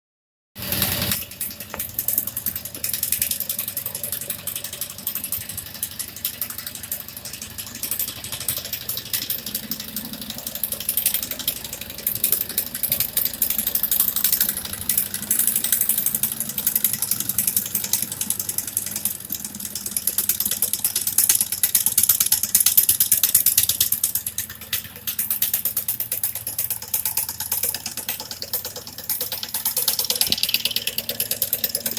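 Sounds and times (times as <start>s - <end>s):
model engine rapid clicking: 0.6s - 31.9s.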